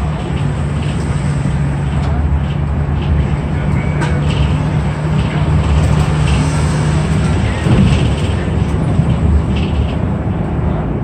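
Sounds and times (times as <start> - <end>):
bus engine drone: 0.0 - 11.0.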